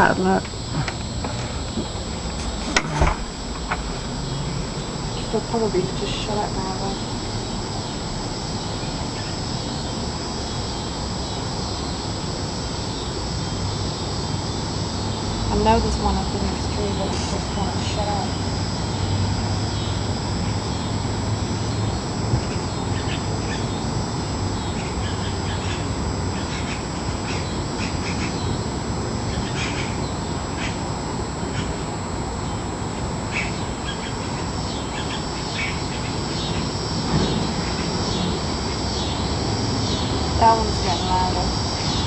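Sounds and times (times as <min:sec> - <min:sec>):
cicadas buzzing: 0:00.0 - 0:42.0.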